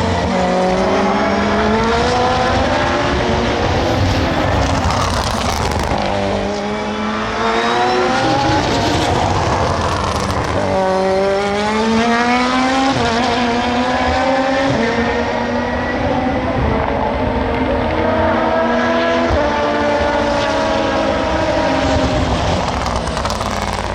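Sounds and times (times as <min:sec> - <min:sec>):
race car engines at full throttle: 0:00.0 - 0:23.9.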